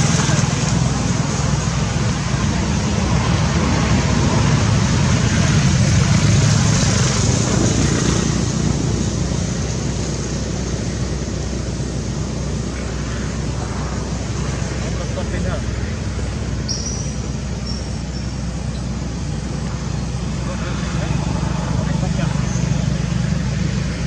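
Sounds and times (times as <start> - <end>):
vehicle passing with tyre hiss: 0.0 - 24.0.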